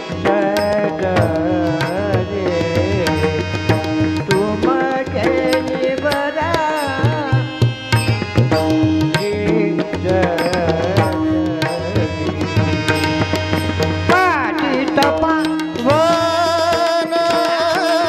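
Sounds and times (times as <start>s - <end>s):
steady held notes: 0.0s - 17.8s
tabla rhythm: 0.0s - 18.0s.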